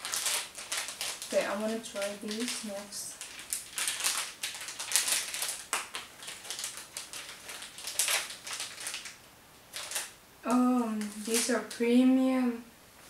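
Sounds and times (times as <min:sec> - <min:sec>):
candy packet crinkling: 0:00.0 - 0:12.0.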